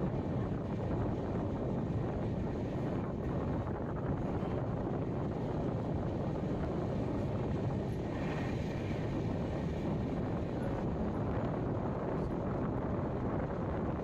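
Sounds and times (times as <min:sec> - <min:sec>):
train wheels rumbling on track: 0:00.0 - 0:13.8.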